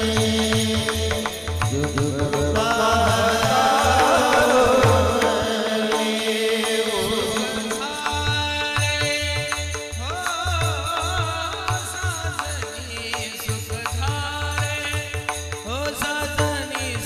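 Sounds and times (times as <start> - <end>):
man singing a melody: 0.0 - 17.0.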